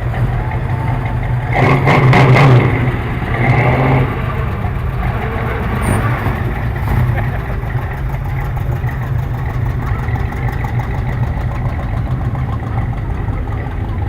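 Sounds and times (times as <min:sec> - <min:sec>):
car engine rumbling and accelerating: 0:00.0 - 0:14.0.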